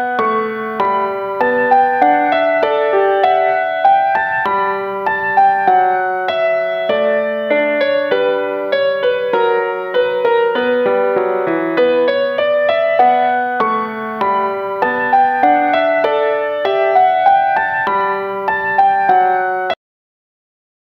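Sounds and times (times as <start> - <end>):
piano music: 0.0 - 19.8.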